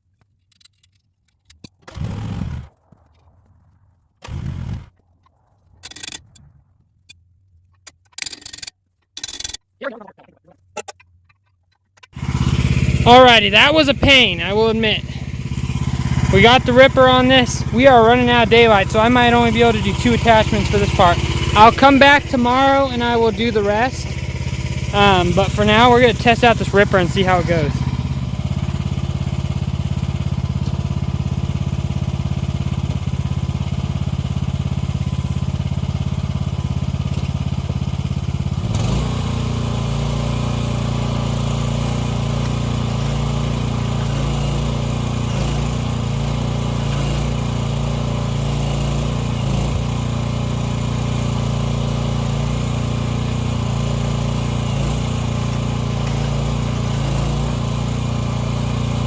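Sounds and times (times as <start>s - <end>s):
excavator engine running: 1.8s - 7.2s, 7.8s - 59.0s.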